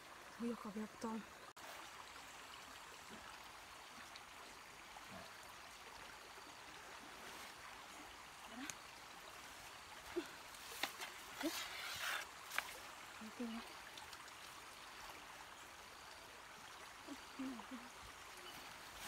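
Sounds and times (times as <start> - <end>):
faint trickling water: 0.0 - 19.0.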